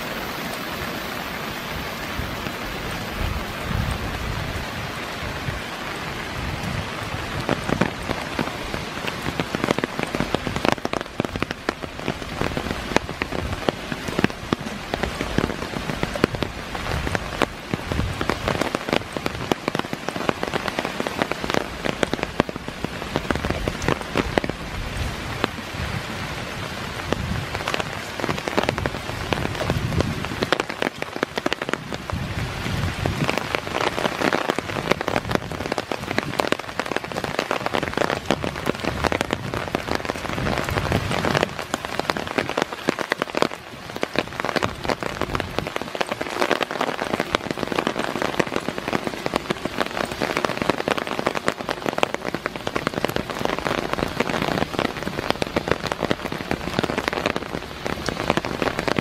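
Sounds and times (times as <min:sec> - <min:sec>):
rain on wooden deck and leaves: 0:00.0 - 0:59.0.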